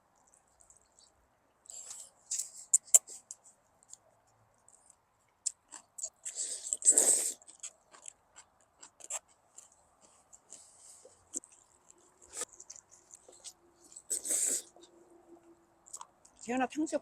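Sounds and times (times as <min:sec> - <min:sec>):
chewing with smacks: 0:00.2 - 0:03.2, 0:04.6 - 0:14.9, 0:15.8 - 0:16.5.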